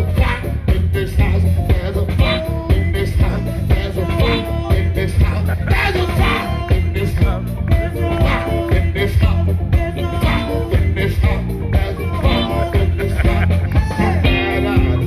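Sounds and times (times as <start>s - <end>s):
bass: 0.0s - 15.0s
drum kit: 0.0s - 15.0s
electric guitar: 0.0s - 15.0s
keyboard: 0.0s - 15.0s
person singing: 0.0s - 15.0s.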